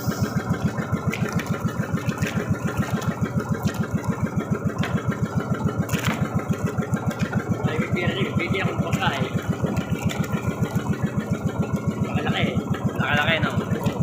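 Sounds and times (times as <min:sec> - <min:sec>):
boat engine chugging: 0:00.0 - 0:14.0.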